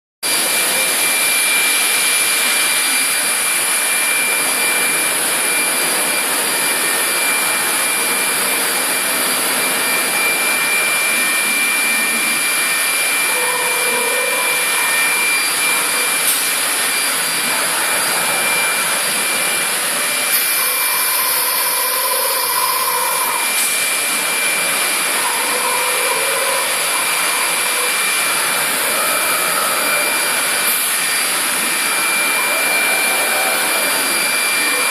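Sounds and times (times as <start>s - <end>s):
cnc router whine and hiss: 0.3s - 34.9s.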